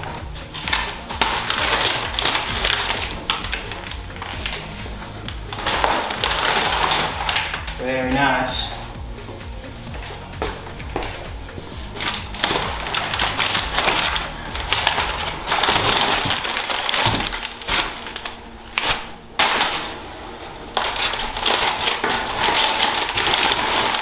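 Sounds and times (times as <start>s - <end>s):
cardboard boxes rustling and tearing: 0.0s - 8.5s, 10.0s - 24.0s.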